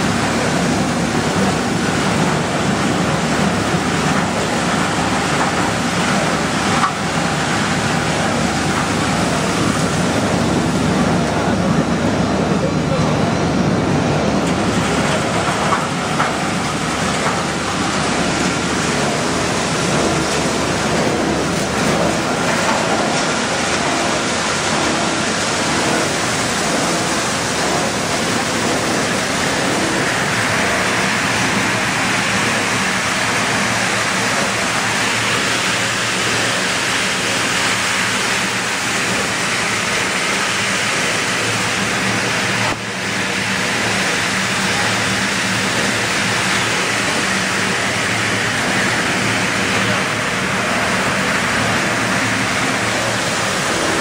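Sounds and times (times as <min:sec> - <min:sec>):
machinery rushing noise: 0:00.0 - 0:54.0.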